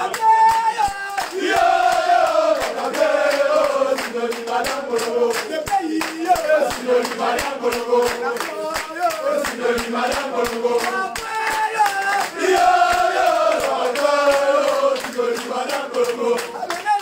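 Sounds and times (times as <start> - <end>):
men singing a chant: 0.0 - 17.0
rhythmic hand clapping: 0.0 - 17.0.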